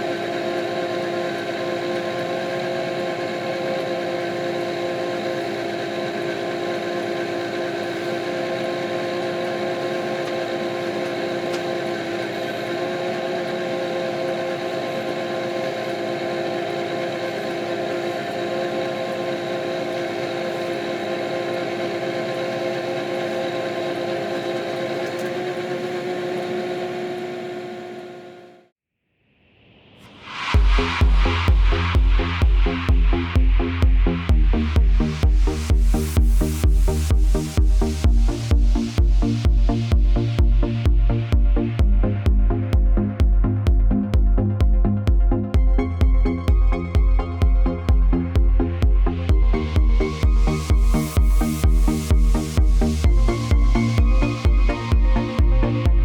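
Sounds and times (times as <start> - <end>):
steady whine: 0.0 - 28.7, 29.5 - 56.0
tractor diesel engine running: 0.0 - 28.7, 30.7 - 56.0.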